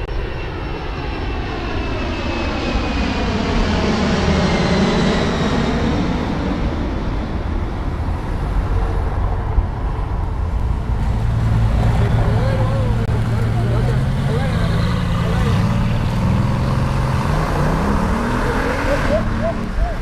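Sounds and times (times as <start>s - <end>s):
aeroplane engine rumble: 0.0s - 20.0s
falling whine of aeroplane: 0.0s - 20.0s.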